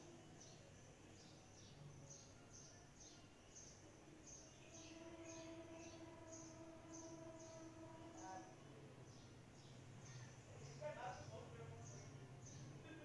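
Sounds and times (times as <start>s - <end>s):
faint steady hum: 0.0s - 13.0s
faint bird chirps: 0.1s - 12.9s.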